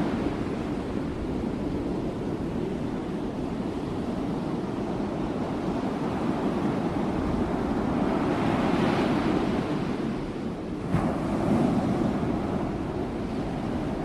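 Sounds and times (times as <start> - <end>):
waves washing on shore: 0.0 - 14.0.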